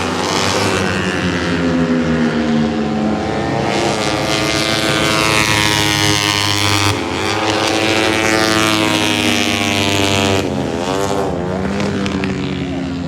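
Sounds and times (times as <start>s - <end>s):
racing motorcycles at high revs: 0.0s - 13.0s.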